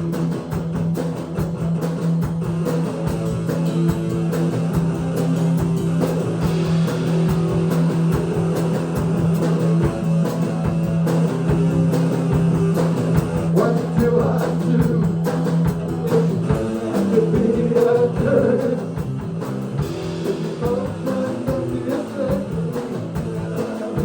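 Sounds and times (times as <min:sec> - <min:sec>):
bass guitar: 0:00.0 - 0:24.0
drum kit beat: 0:00.0 - 0:24.0
electric guitar chords: 0:00.0 - 0:24.0.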